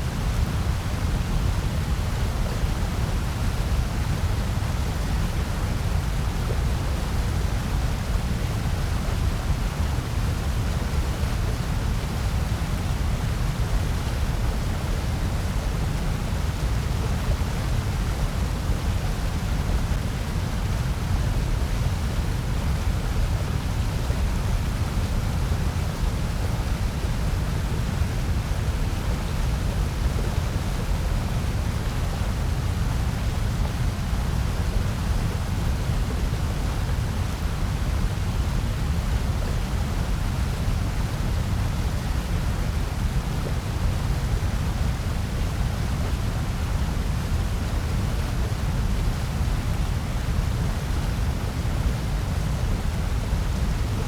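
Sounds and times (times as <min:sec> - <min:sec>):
steady hiss and rumble noise: 0:00.0 - 0:54.0.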